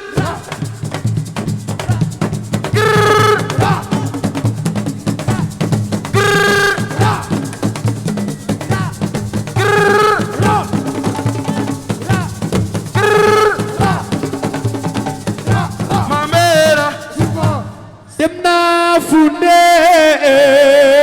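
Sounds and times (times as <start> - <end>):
dense drumming: 0.2 - 17.8.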